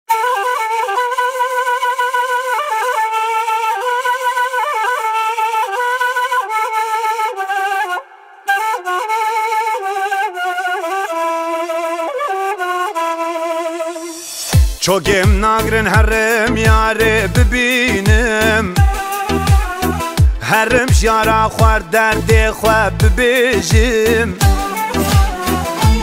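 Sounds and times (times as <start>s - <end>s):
flute melody: 0.1s - 26.0s.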